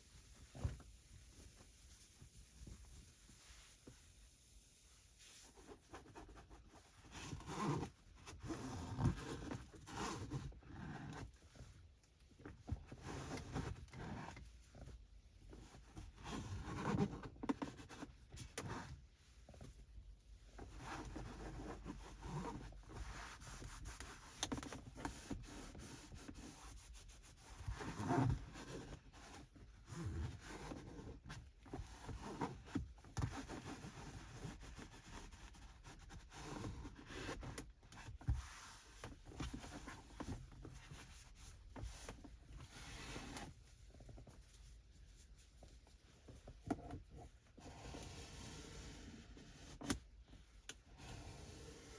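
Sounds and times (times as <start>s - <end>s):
cloth rubbing surfaces: 0.0s - 51.9s.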